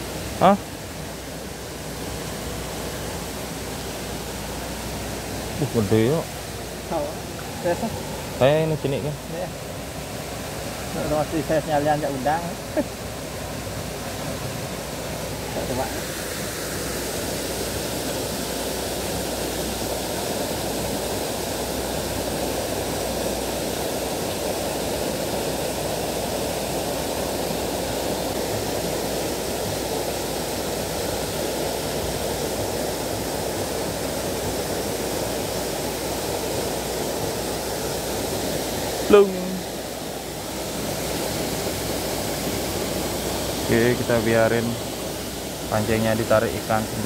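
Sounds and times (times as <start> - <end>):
waterfall pouring into pond: 0.0 - 47.0.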